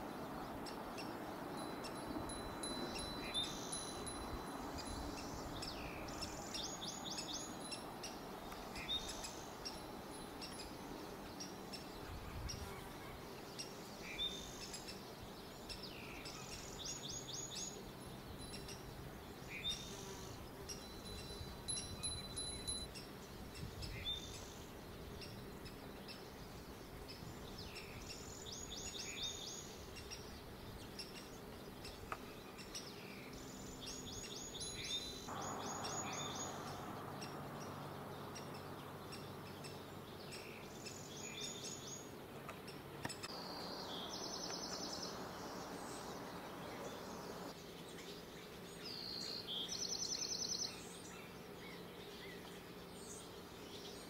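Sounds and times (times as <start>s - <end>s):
birds chirping: 0.0s - 54.0s
outdoor background noise: 0.0s - 54.0s.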